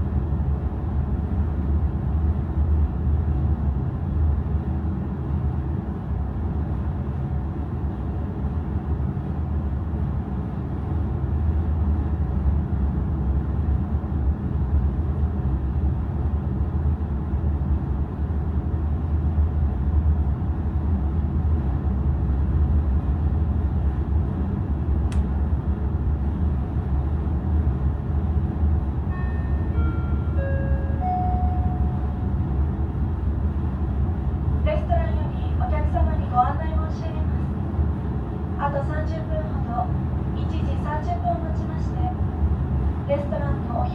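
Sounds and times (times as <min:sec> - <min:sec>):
ship engine rumble and hum: 0:00.0 - 0:43.9.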